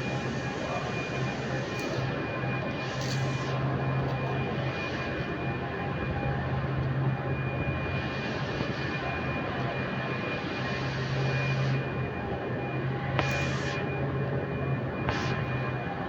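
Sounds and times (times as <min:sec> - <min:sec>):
machine drone with whine: 0:00.0 - 0:16.0.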